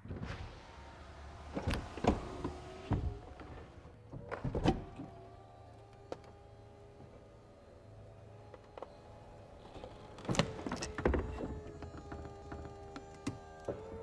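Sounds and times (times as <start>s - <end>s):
faint motor hum: 0.0s - 14.0s.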